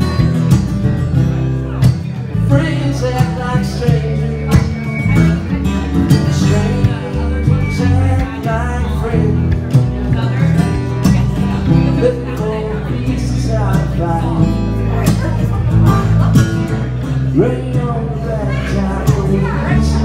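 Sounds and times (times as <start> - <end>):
acoustic guitar strumming: 0.0 - 20.0
man singing: 1.6 - 20.0.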